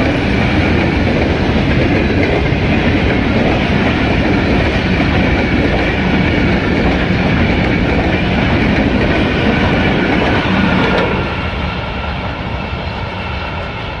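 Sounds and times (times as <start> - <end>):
train passing at high speed: 0.0 - 14.0.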